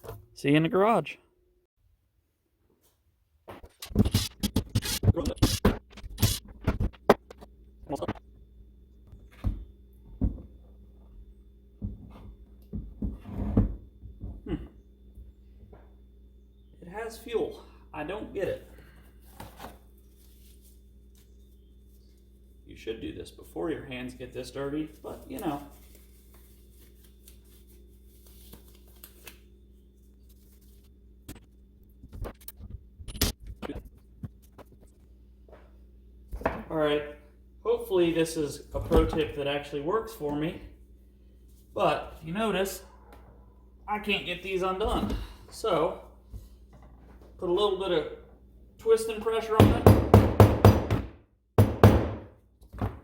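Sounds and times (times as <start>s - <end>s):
faint steady hum: 6.8s - 49.2s.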